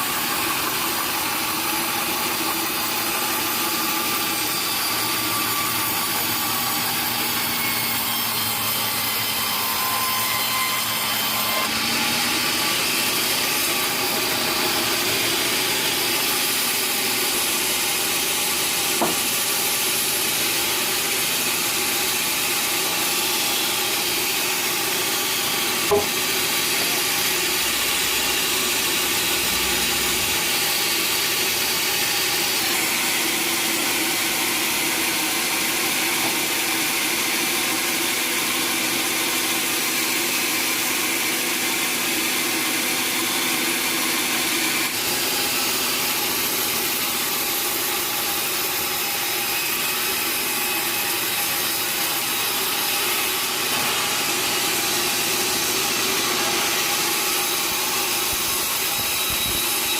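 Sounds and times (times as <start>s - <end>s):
sawmill saw cutting timber: 0.0s - 59.9s.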